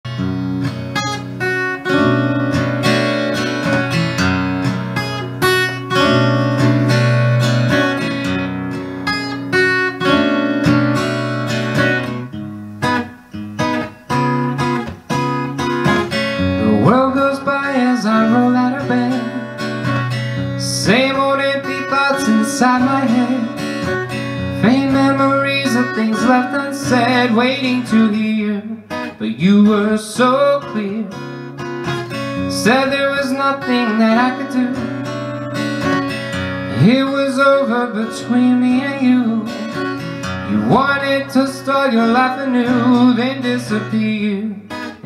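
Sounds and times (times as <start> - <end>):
acoustic guitar picking and strumming: 0.1 - 45.0.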